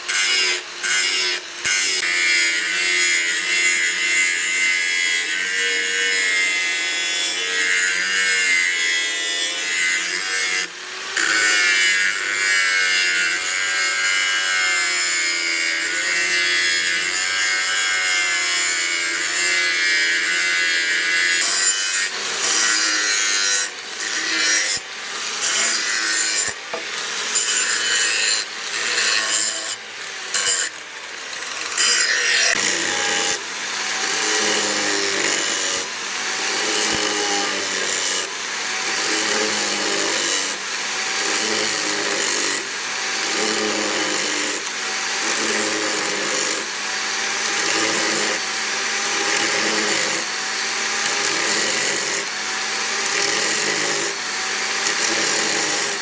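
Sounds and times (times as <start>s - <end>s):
power grinder on steel: 0.0s - 56.0s.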